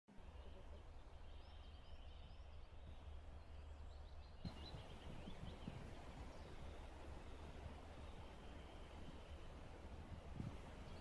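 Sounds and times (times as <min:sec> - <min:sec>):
bird chirps: 0:00.2 - 0:09.6
wind rumble on microphone: 0:01.8 - 0:11.0.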